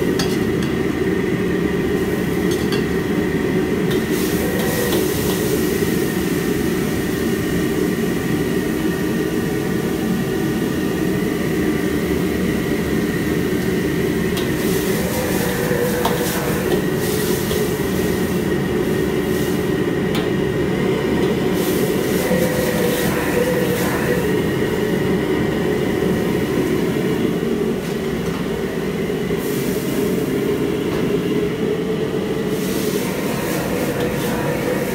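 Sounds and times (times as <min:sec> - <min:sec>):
thin steady whine: 0:00.0 - 0:34.9.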